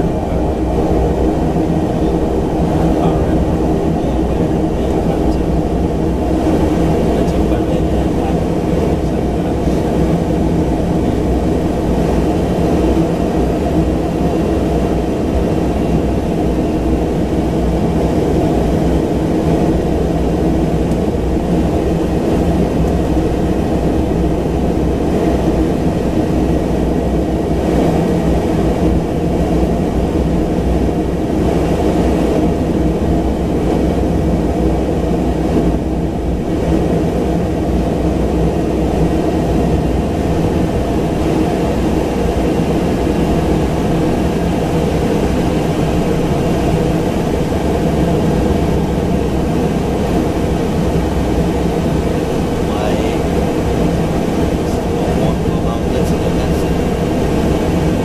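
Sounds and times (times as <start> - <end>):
turboprop engine droning: 0.0 - 58.0.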